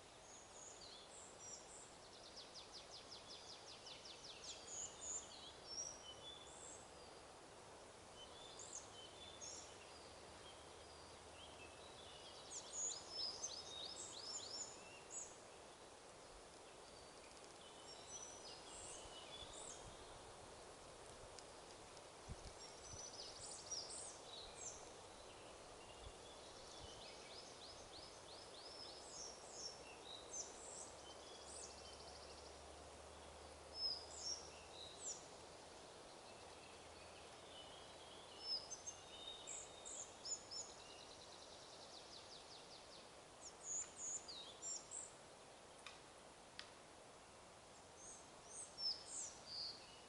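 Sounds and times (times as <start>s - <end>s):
songbirds chirping and trilling: 0.0s - 46.5s, 47.2s - 50.0s
wind in the trees: 0.0s - 50.0s.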